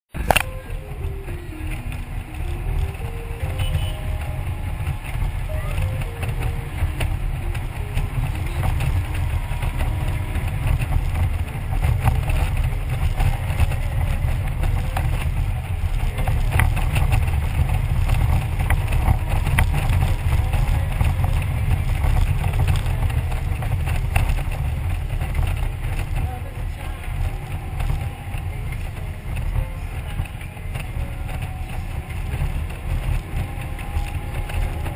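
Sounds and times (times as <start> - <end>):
motorcycle engine rumble: 0.1 - 34.9
wind buffeting microphone: 0.1 - 34.9.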